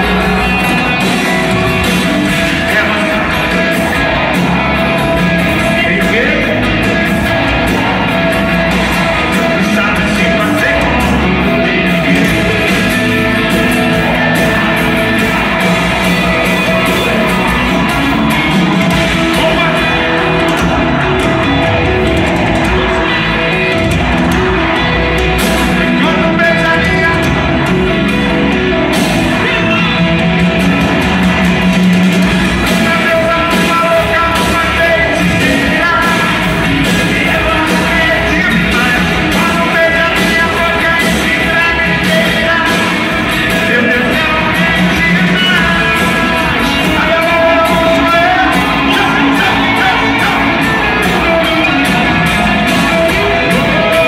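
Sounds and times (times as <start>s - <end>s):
live band with singers: 0.0s - 54.0s.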